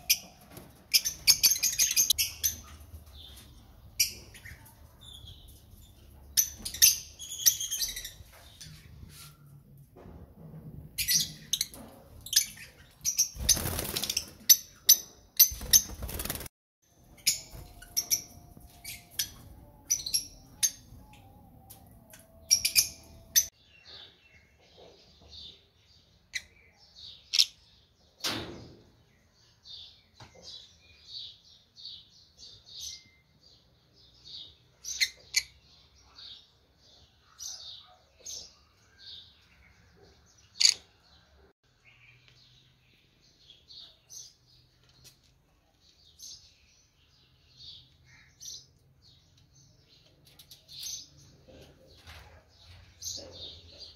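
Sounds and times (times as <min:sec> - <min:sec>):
lovebirds chirping: 0:00.0 - 0:09.5, 0:17.1 - 0:28.0, 0:29.2 - 0:53.9.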